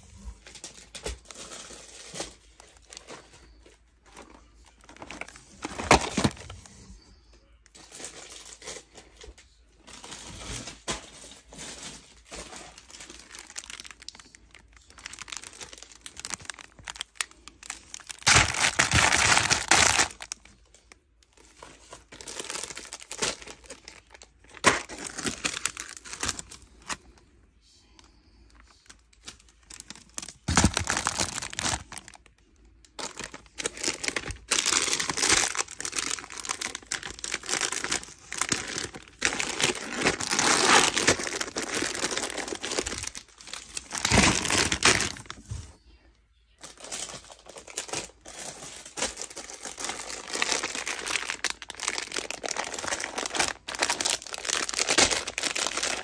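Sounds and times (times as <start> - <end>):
plastic wrappers crinkling: 0.2 - 7.0, 7.6 - 27.2, 28.0 - 45.7, 46.6 - 56.0.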